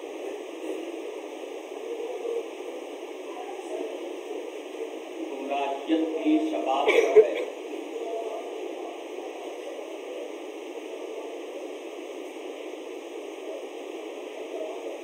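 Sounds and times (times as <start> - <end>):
static-like hiss: 0.0 - 15.0.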